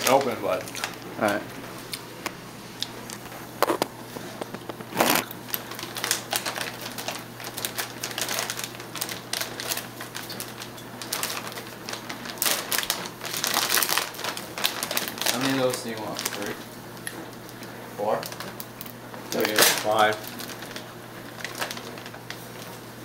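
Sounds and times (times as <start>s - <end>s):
crackling handling noises: 0.0s - 23.0s.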